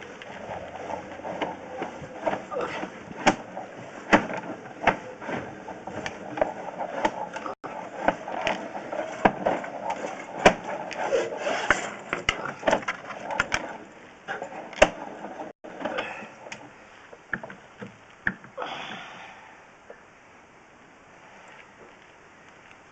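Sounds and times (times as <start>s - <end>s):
sharp knocks and clatter: 0.0s - 18.6s.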